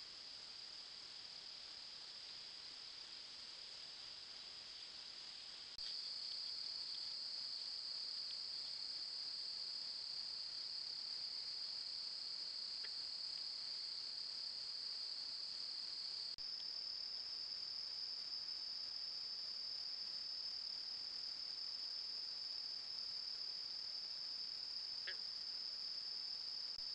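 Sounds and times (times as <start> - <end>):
crickets trilling: 0.0 - 26.9.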